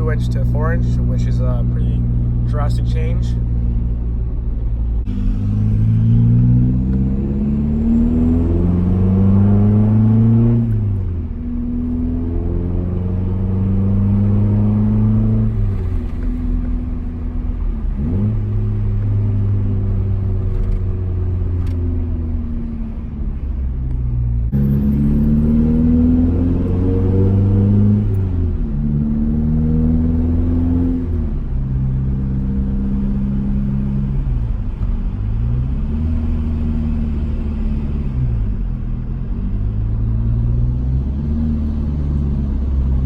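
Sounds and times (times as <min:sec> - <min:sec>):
loud car engine accelerating: 0:00.0 - 0:43.0.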